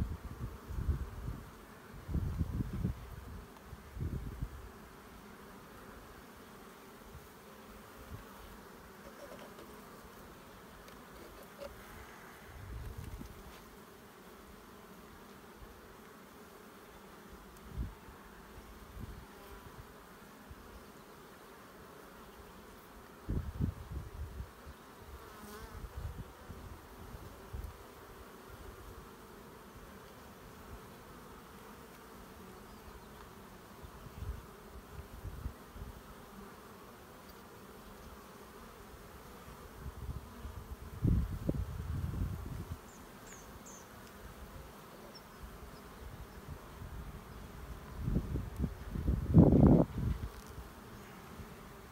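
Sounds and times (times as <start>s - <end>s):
honey bees buzzing: 0.0s - 51.9s.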